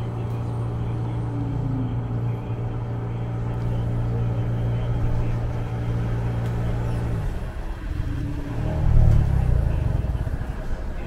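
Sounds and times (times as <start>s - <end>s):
bus engine hum: 0.0s - 11.0s
low rumble: 0.0s - 11.0s.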